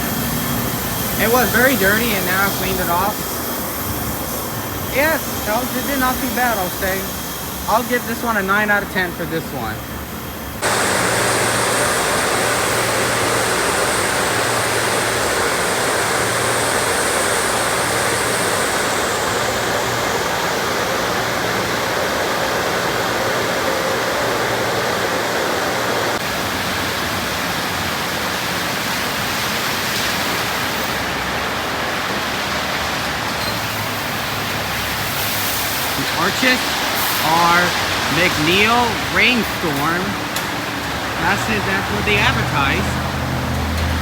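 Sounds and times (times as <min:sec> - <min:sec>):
high hiss: 0:00.0 - 0:26.2, 0:33.7 - 0:43.3
water spraying in car wash: 0:00.0 - 0:44.0.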